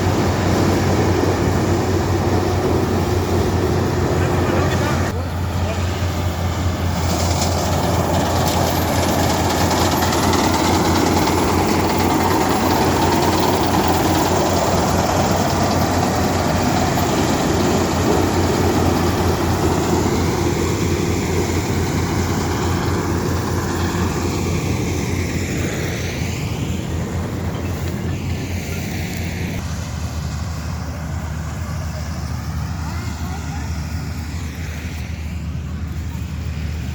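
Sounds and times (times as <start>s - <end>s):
combine harvester drone: 0.0s - 36.9s.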